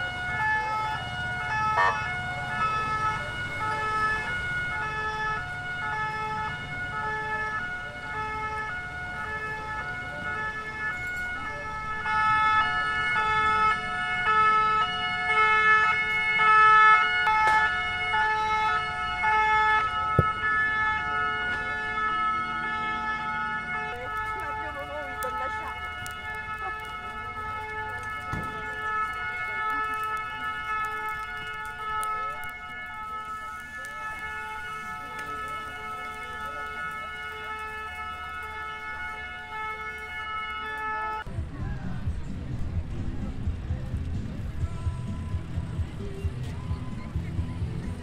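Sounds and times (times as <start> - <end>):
two-tone emergency sirens: 0.0 - 42.2.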